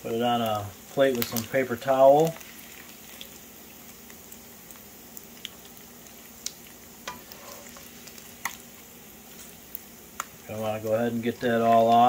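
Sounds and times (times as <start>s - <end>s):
grease sizzling in a frying pan: 0.0s - 12.0s.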